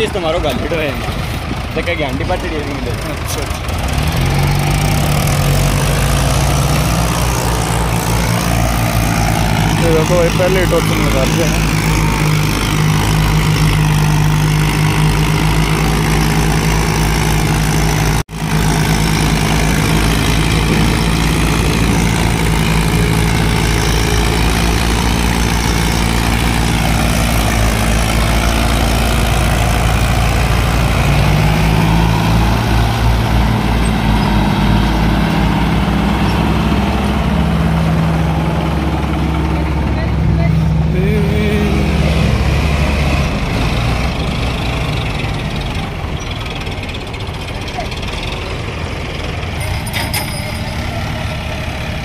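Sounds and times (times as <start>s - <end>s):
diesel tractor engines under load: 0.0s - 52.0s.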